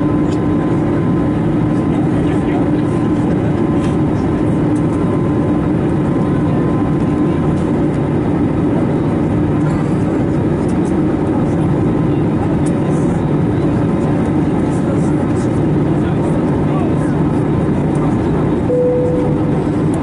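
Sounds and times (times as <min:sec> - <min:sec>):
airflow rush in cabin: 0:00.0 - 0:20.0
low engine drone: 0:00.0 - 0:20.0.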